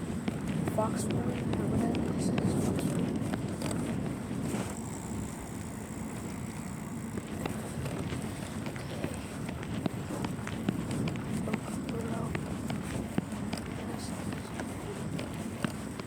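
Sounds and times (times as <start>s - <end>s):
bicycle clicks and rattles: 0.0s - 16.0s
road rumble: 0.0s - 16.0s
wind on microphone: 0.0s - 16.0s.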